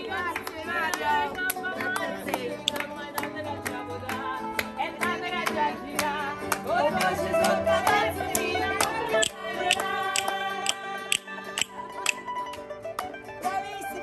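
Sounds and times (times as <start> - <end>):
women singing: 0.0 - 12.3, 13.4 - 14.0
acoustic guitar: 0.0 - 14.0
mandolin: 0.0 - 14.0
hand claps: 0.2 - 7.6, 8.3 - 13.2.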